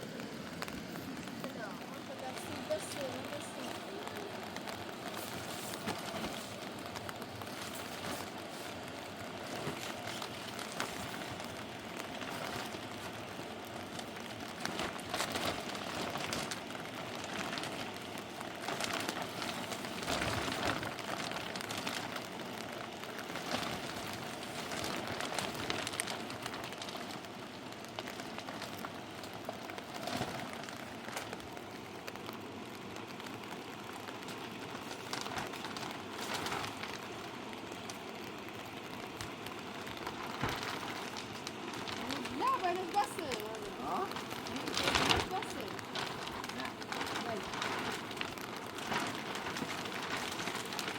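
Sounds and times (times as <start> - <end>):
heavy rain hissing: 0.0 - 50.9
raindrop taps: 0.0 - 50.9.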